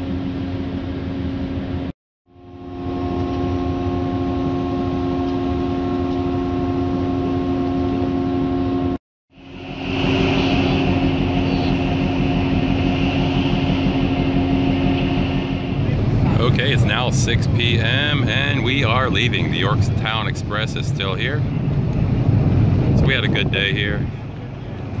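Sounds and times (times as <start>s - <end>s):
ship machinery hum: 0.0s - 25.0s.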